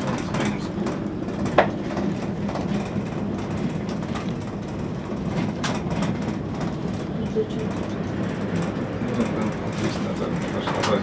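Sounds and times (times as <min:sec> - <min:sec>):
cable car cabin rumble: 0:00.0 - 0:11.0.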